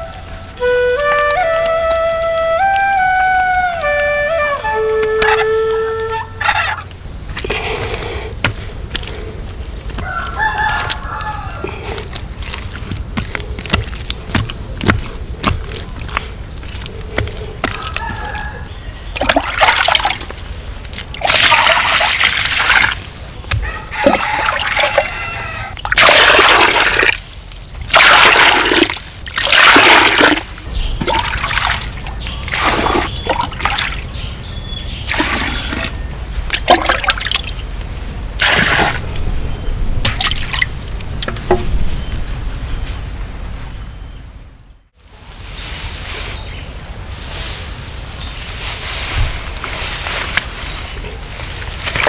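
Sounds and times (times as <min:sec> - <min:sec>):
water splashing and sloshing: 0:00.0 - 0:42.8, 0:48.5 - 0:52.0.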